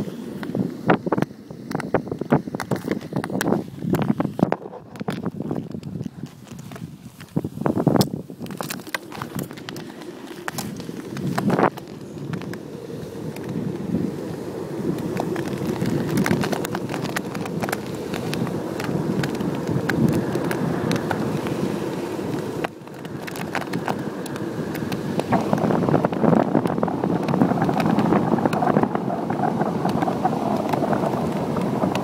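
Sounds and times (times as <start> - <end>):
wind on microphone: 0.0 - 32.0
wheels crunching over shells: 1.1 - 32.0.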